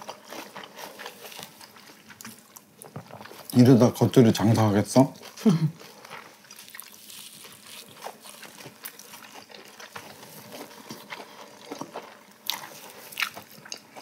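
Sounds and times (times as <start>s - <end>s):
soft chewing: 0.0s - 14.0s.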